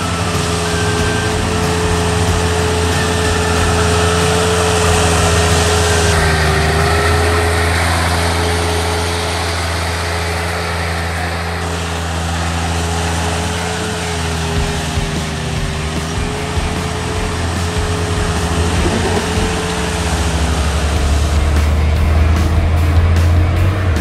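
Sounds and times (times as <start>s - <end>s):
power trowel engine drone: 0.0s - 24.0s.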